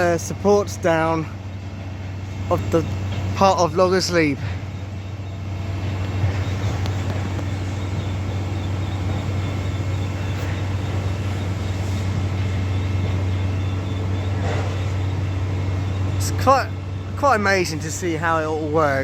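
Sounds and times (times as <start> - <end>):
crane engine droning: 0.0 - 19.0.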